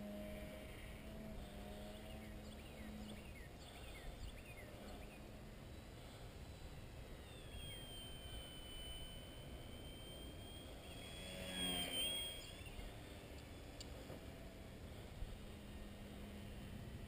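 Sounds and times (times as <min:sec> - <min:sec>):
model airplane motor whining: 0:00.0 - 0:17.0.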